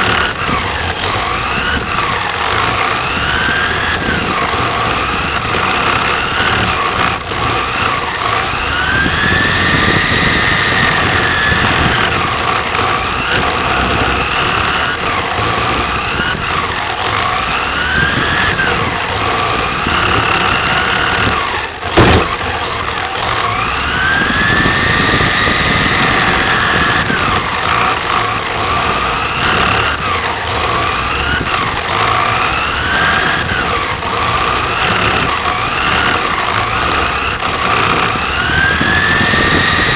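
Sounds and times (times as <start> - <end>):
rc car motor whine: 0.0 - 39.9
tyres rumbling on track: 0.0 - 39.9.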